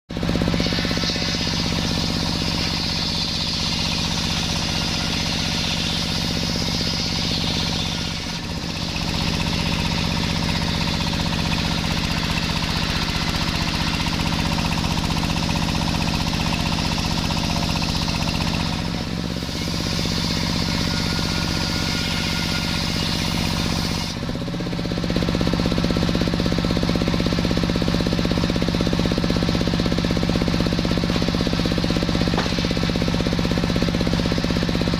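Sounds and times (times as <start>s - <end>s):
saw cutting log: 0.1s - 34.9s
sawmill machinery humming: 0.1s - 34.9s.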